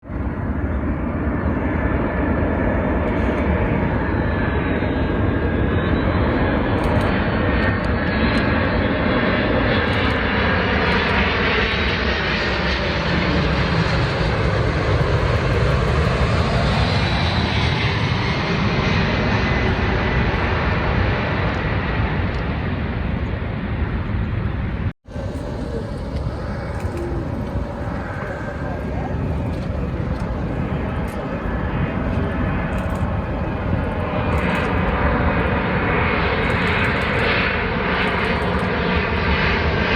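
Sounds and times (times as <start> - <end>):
jet airliner flying overhead: 0.0 - 39.9.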